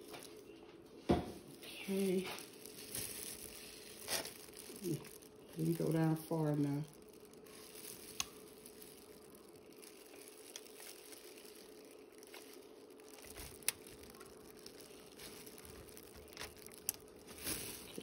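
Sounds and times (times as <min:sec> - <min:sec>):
faint steady hum: 0:00.0 - 0:18.0
gloved hands rustling foil pan: 0:01.3 - 0:18.0.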